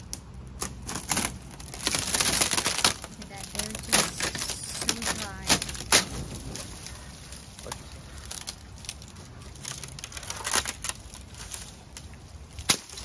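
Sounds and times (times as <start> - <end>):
sharp plastic crack: 0.0 - 6.9, 7.6 - 13.0
plastic panel crackling and scraping: 0.6 - 7.0, 7.6 - 12.0.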